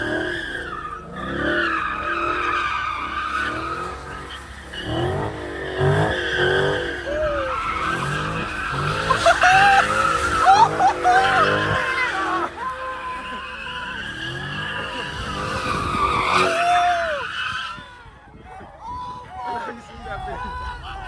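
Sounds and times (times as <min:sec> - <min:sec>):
car engine revving: 0:00.0 - 0:18.1
tyres squealing: 0:00.0 - 0:21.0.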